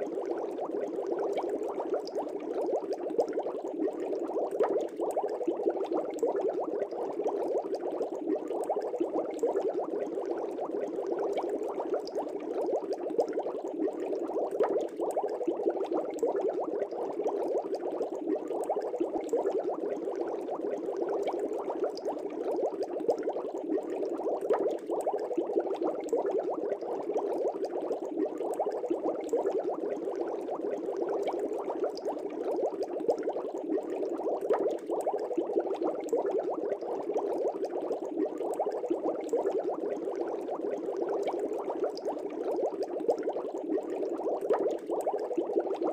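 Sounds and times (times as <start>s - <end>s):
water bubbling: 0.0s - 45.9s.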